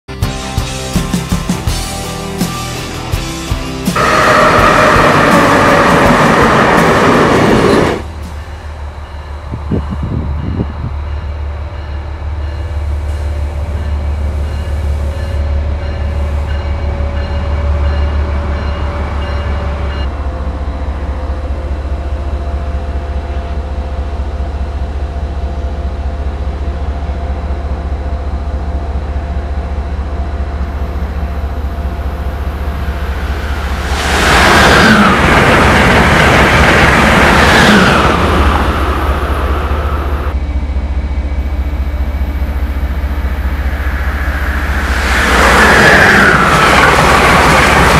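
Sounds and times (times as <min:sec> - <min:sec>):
diesel locomotive rumbling: 0:00.2 - 0:47.9
high-speed train passing: 0:00.5 - 0:47.9.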